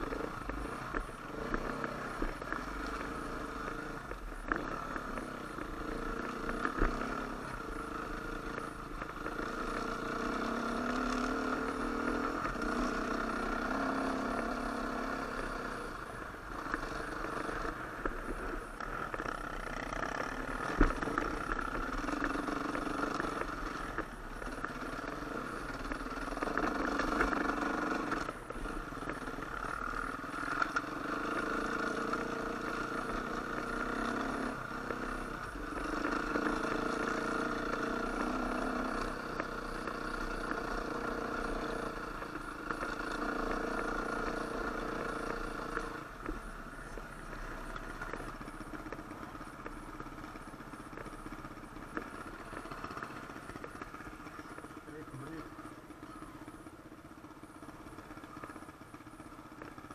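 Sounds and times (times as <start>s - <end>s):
dirt bike engine revving: 0.0s - 56.7s.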